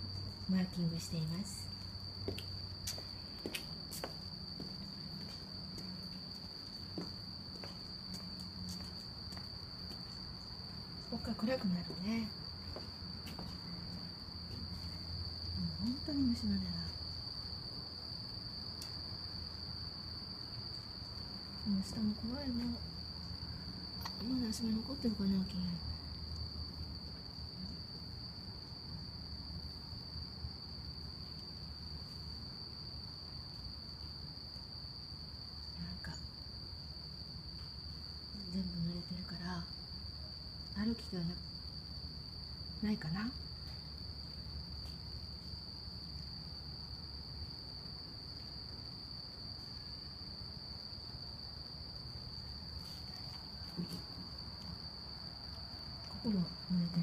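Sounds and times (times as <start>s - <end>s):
night insects chirring: 0.0s - 57.0s.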